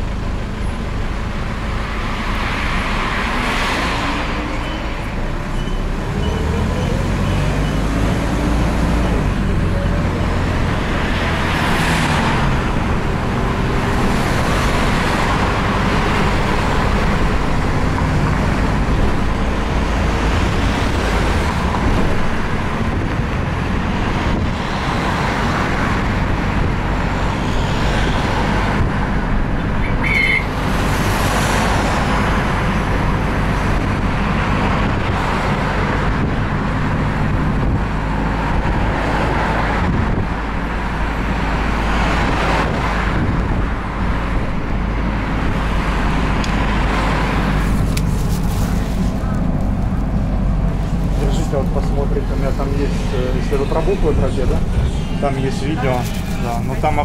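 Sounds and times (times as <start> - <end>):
bus engine running: 0.0 - 57.0
tyre and road noise: 0.0 - 57.0.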